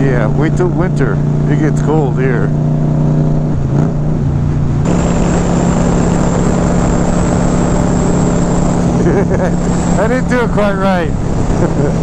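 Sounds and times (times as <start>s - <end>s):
motorcycle engine cruising: 0.0s - 12.0s
road noise: 0.0s - 12.0s.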